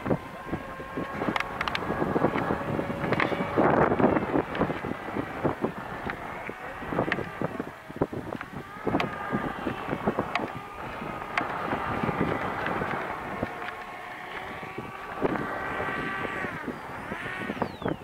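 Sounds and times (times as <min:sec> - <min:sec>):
electric motor and propeller whine: 0:00.0 - 0:18.0
wind buffeting microphone: 0:00.0 - 0:18.0.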